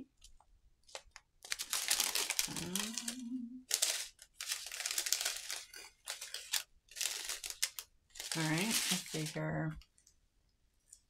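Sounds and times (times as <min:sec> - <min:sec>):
plastic packaging crinkling: 0:00.8 - 0:10.1.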